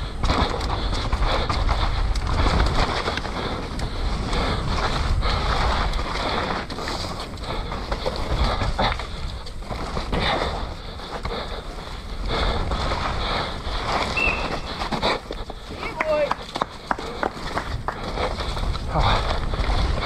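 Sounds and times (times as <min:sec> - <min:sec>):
bike knocking and rattling: 0:00.0 - 0:20.0
bike tyres on dirt: 0:00.0 - 0:20.0
wind buffeting microphone: 0:00.0 - 0:20.0.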